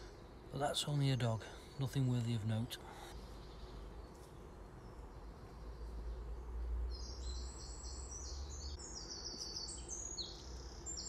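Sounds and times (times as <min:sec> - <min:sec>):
small songbird singing: 0:00.0 - 0:11.0.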